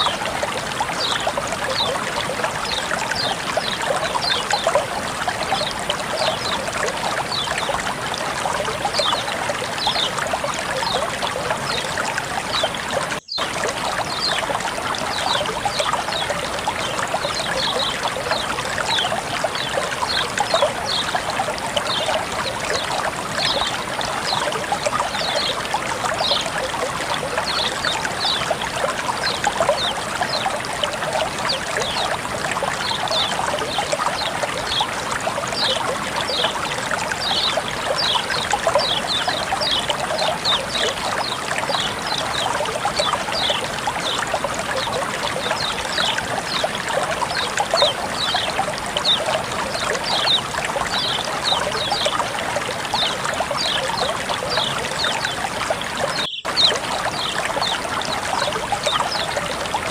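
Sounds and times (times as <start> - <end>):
trickling water: 0.0 - 59.9.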